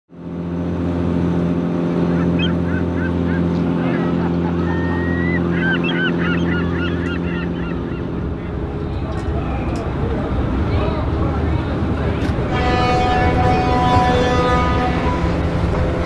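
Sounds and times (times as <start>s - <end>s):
boat engine droning: 0.1s - 16.0s.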